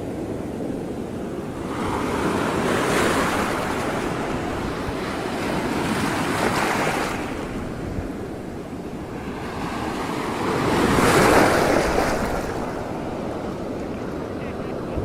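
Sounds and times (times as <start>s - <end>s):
water rushing: 1.0s - 15.0s.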